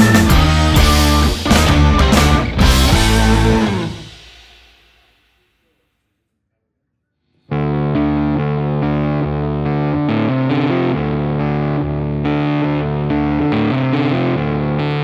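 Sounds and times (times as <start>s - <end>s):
distorted electric guitar chords: 0.0s - 4.6s, 7.5s - 15.0s.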